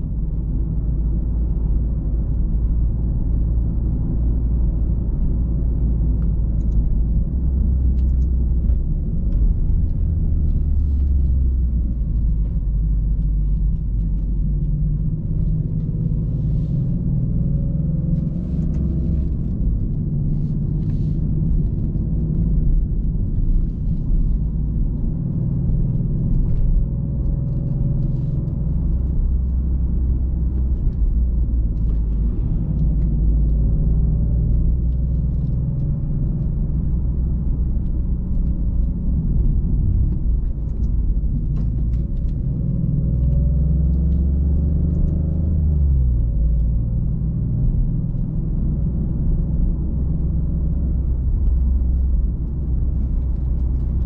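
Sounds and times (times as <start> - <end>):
car engine droning: 0.0 - 54.0
road rumble: 0.0 - 54.0.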